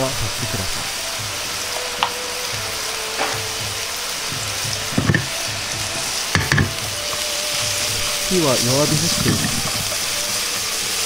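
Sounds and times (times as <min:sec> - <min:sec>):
vegetables sizzling in hot oil: 0:00.0 - 0:11.0
stirring clicks and knocks: 0:00.2 - 0:11.0.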